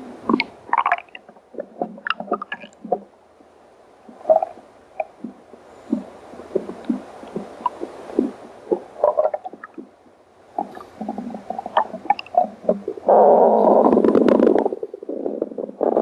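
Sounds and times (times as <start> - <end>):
stomach growling: 0.0 - 3.1, 4.1 - 16.0.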